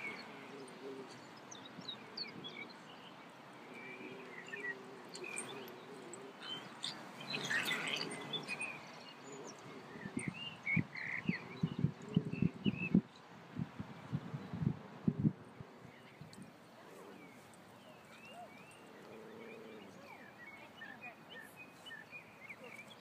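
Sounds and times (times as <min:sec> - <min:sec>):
outdoor background noise: 0:00.0 - 0:23.0
wild birds chirping: 0:00.0 - 0:23.0.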